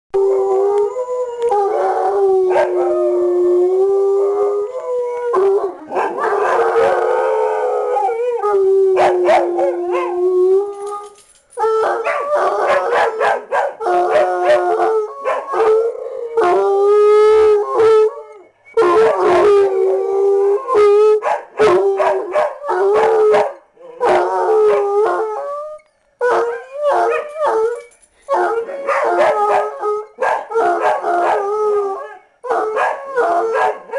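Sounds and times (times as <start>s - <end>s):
dogs howling: 0.2s - 33.9s.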